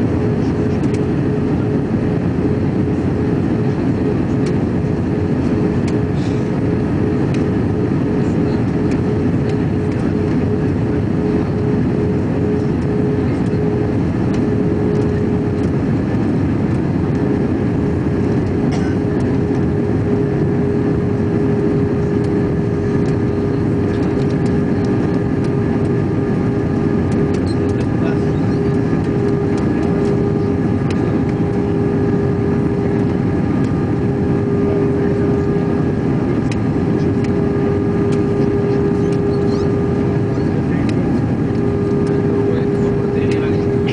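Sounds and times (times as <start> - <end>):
airliner cabin engine rush: 0.0 - 43.9
constant hum tone: 0.0 - 43.9.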